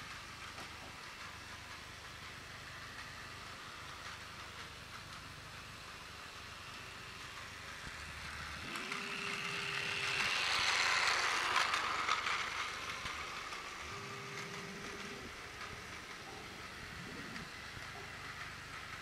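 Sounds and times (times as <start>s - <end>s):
toy train motor whirring: 0.0s - 19.0s
toy train wheels rattling: 0.0s - 19.0s.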